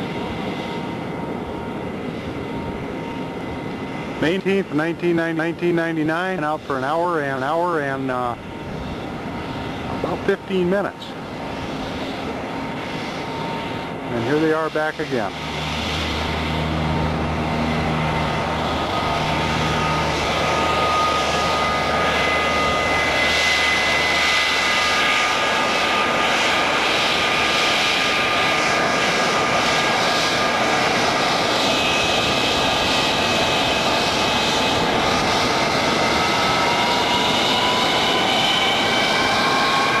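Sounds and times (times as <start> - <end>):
jet engine rushing with whistling: 0.0 - 40.0.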